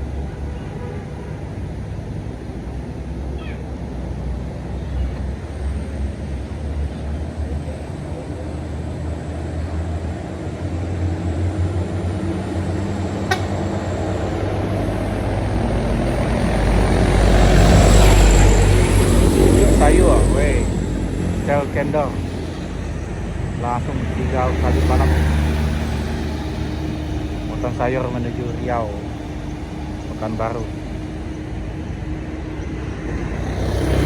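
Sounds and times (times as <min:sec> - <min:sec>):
traffic engines rumbling: 0:00.0 - 0:34.0
heavy vehicle approaching: 0:01.7 - 0:34.0.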